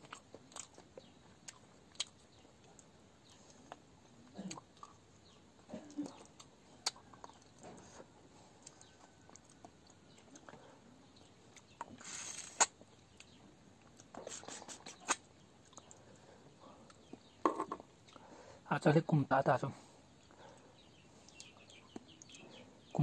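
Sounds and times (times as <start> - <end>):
chewing with wet mouth clicks: 0.0 - 7.9, 8.6 - 16.1, 16.8 - 18.3, 20.2 - 22.6.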